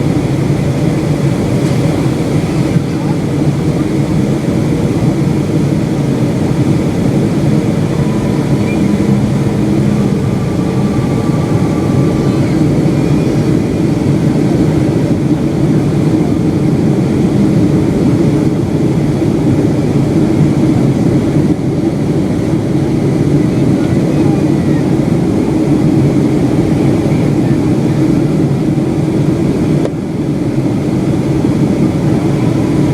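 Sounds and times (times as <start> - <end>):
airliner cabin engine and airflow noise: 0.0 - 32.9.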